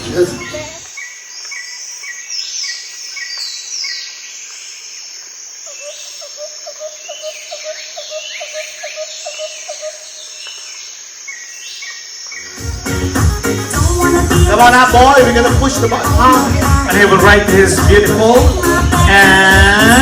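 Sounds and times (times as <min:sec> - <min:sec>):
birds chirping and whistling: 0:00.0 - 0:04.9, 0:05.8 - 0:13.1, 0:14.1 - 0:20.0.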